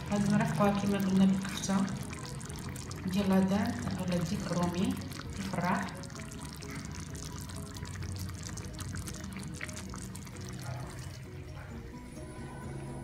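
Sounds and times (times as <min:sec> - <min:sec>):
sauce bubbling: 0:00.0 - 0:11.4
soft background music: 0:00.0 - 0:13.0.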